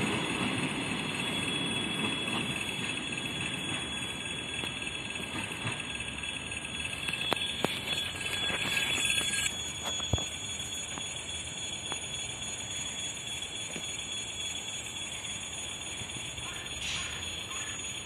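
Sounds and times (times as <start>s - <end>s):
level crossing warning bell ringing: 0.0s - 18.0s.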